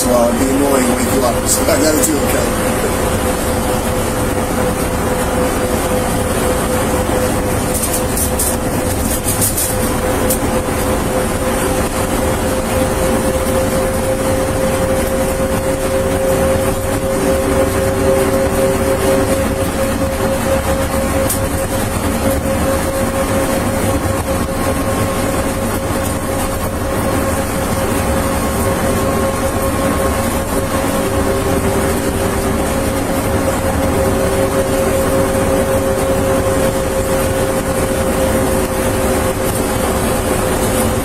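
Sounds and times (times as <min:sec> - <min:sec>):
constant droning hum: 0:00.0 - 0:41.0
vehicle cabin rumble: 0:00.0 - 0:41.0.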